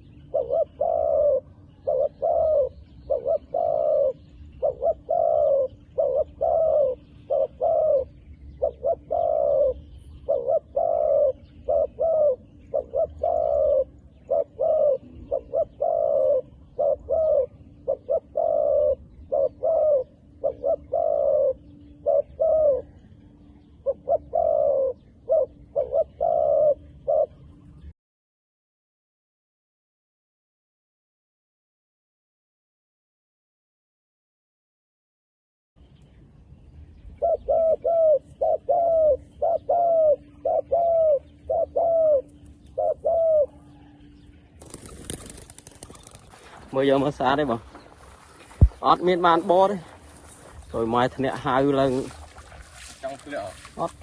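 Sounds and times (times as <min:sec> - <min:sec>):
doves cooing: 0:00.0 - 0:27.9, 0:37.1 - 0:54.0.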